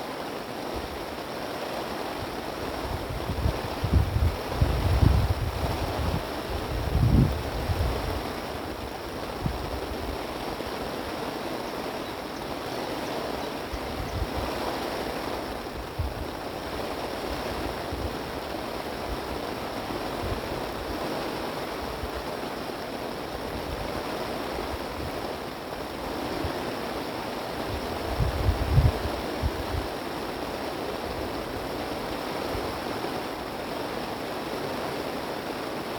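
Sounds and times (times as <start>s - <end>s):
wind blowing: 2.0s - 35.9s
wind gusts thumping microphone: 2.2s - 11.4s, 12.4s - 22.4s, 23.1s - 33.3s.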